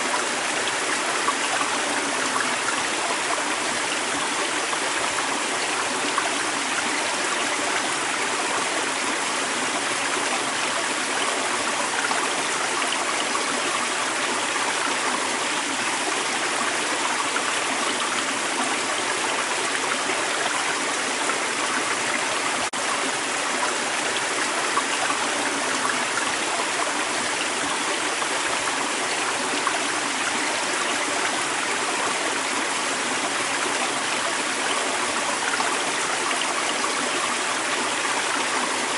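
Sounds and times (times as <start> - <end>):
creek water flowing and splashing: 0.0 - 38.9.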